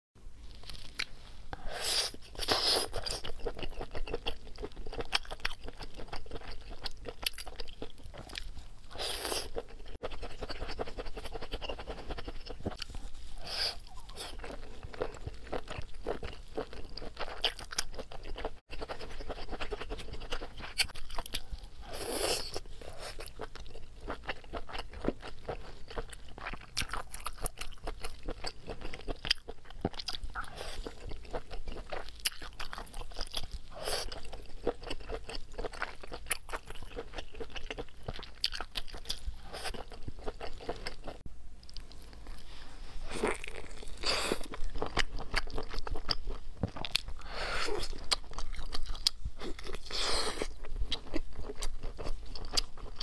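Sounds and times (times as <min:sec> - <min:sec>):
person chewing and biting: 0:00.7 - 0:42.5, 0:43.1 - 0:53.0.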